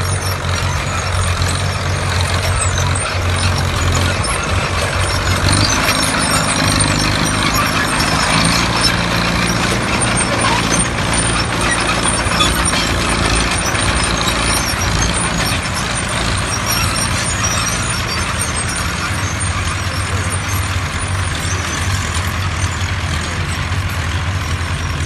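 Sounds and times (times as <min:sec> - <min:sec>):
diesel tractor engines running: 0:00.0 - 0:25.0.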